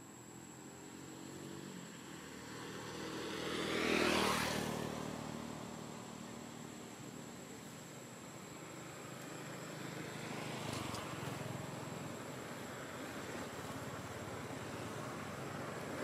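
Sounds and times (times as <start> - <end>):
vehicle engine passing by: 0.6 - 7.6, 8.4 - 16.0.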